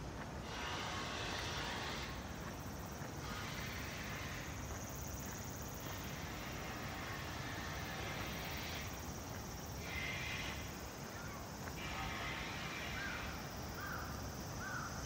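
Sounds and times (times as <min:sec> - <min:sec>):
footsteps on pavement: 0:00.0 - 0:13.1
low city rumble: 0:00.0 - 0:15.0
high insect buzz: 0:00.4 - 0:15.0.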